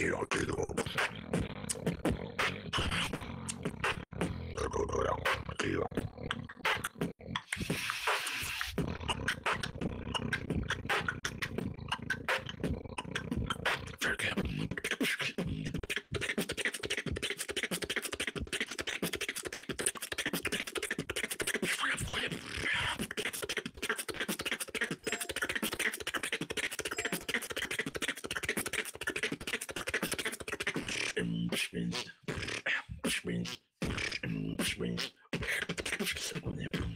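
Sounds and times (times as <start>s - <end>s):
beatboxing: 0.0s - 36.9s.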